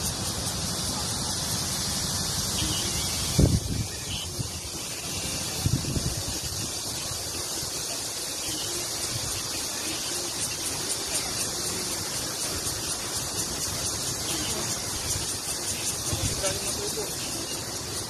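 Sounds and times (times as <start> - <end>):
faint voices of people: 0.0 - 18.0
high outdoor hiss: 0.0 - 18.0.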